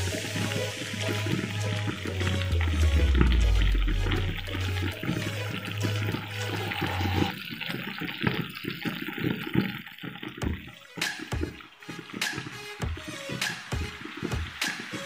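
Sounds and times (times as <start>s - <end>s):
background music: 0.0s - 7.5s, 10.4s - 15.0s
sauce bubbling in a wok: 0.0s - 15.0s.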